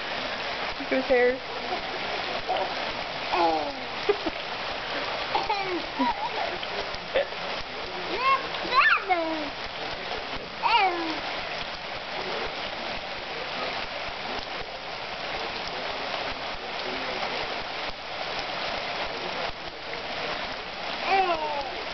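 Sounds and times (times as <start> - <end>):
rain on concrete: 0.0 - 21.9.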